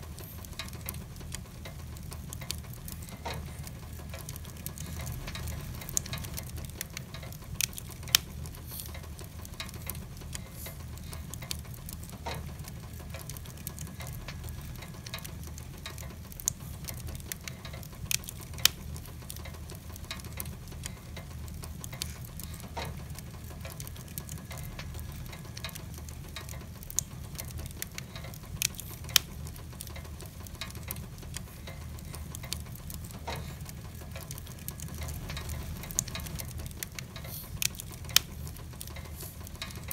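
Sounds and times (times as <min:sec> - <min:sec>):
logs burning and crackling: 0:00.0 - 0:39.9
rain: 0:00.0 - 0:39.9.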